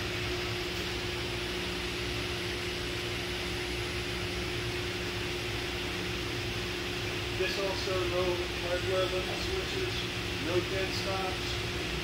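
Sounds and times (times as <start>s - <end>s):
machinery hum and hiss: 0.0s - 12.0s.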